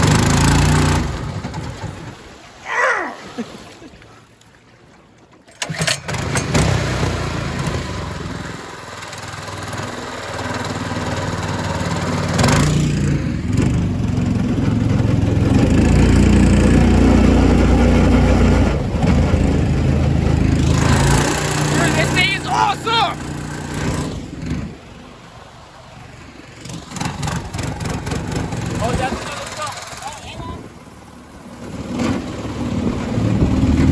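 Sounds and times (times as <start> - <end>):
small gas engine running: 5.6 - 25.6, 26.3 - 33.9.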